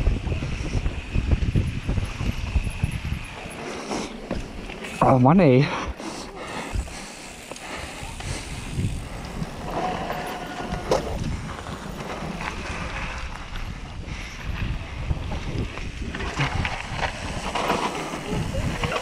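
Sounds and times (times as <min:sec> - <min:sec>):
wind on microphone: 0:00.0 - 0:05.1, 0:07.7 - 0:19.0
bike rattling: 0:00.0 - 0:19.0
bike tyres on dirt: 0:00.0 - 0:19.0.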